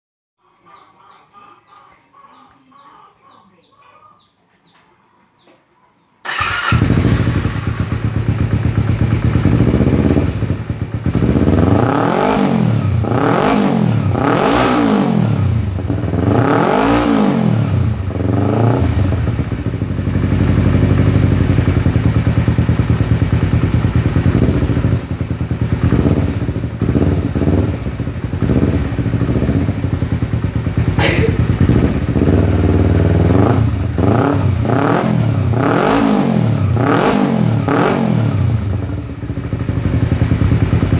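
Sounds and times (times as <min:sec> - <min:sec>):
motorcycle engine revving: 0:06.2 - 0:40.9.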